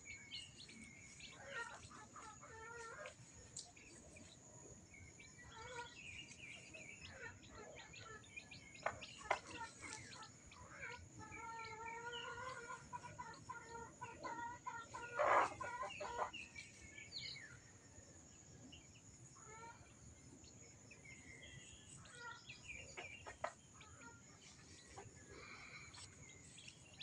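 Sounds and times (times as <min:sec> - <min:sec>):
chicks peeping: 0:00.0 - 0:04.4, 0:05.1 - 0:17.6, 0:21.6 - 0:27.0
chickens clucking: 0:00.0 - 0:17.6, 0:21.9 - 0:27.0.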